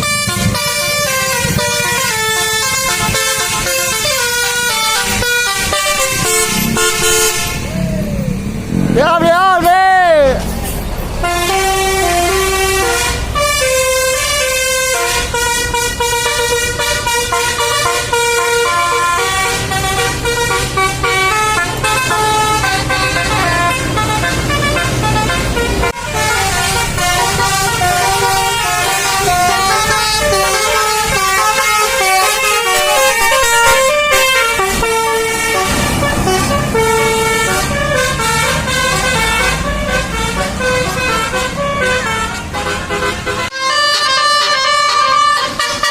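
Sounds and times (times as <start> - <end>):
bus horn playing melody: 0.0 - 8.8, 11.0 - 45.9
bus engine rumble: 0.0 - 45.9.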